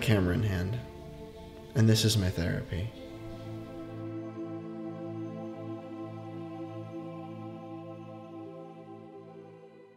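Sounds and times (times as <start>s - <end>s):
ambient chord of steady tones: 0.0s - 9.9s.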